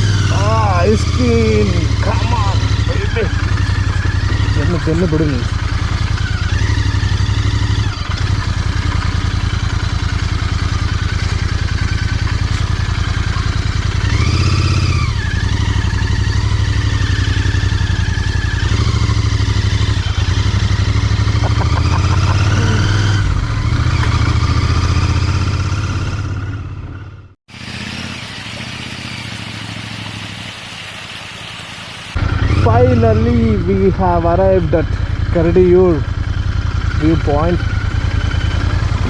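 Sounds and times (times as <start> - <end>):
motorcycle engine running: 0.0 - 30.6, 32.1 - 39.0.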